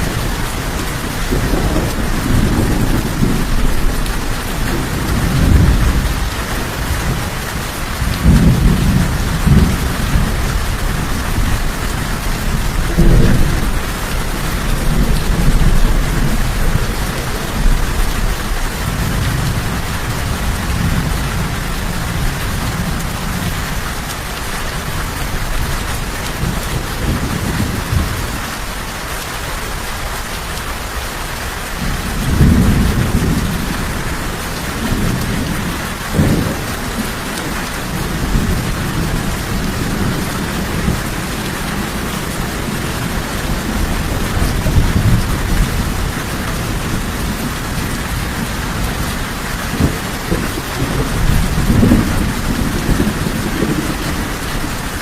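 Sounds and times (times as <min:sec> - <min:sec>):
thunder rumbling: 0:00.0 - 0:28.8, 0:31.7 - 0:55.0
heavy rainfall: 0:00.0 - 0:55.0.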